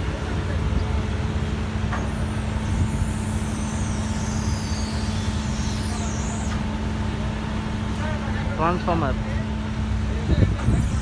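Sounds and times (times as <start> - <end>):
diesel generator running: 0.0 - 11.0.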